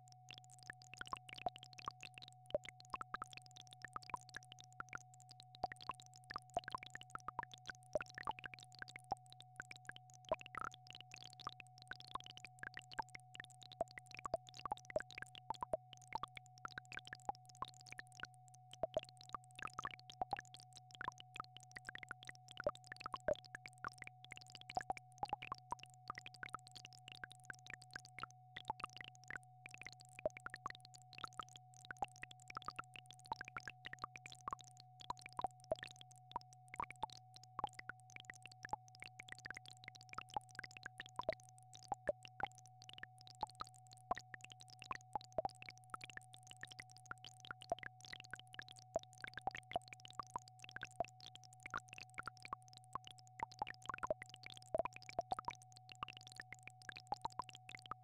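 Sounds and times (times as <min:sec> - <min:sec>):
soft plinks and clicks: 0:00.0 - 0:58.0.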